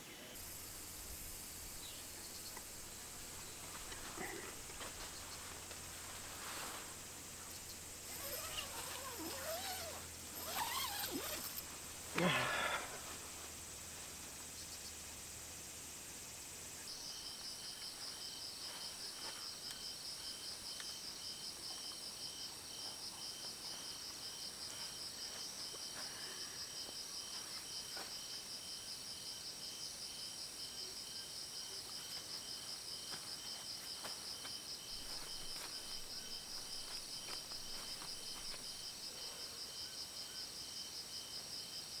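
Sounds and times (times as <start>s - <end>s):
crickets chirping: 0.2s - 42.0s.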